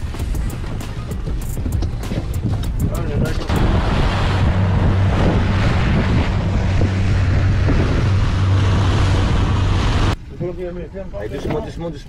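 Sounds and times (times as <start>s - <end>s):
wind buffeting microphone: 0.0s - 10.2s
water rushing from hull: 0.0s - 10.4s
motorboat engine hum: 0.0s - 12.0s.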